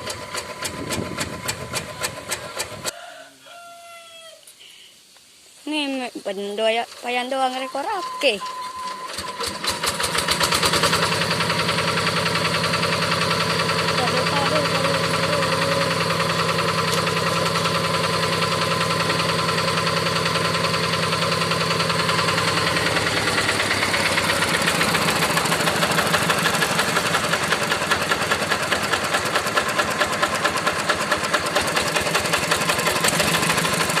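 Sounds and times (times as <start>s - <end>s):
diesel engine knocking: 0.0s - 2.9s, 9.2s - 34.0s.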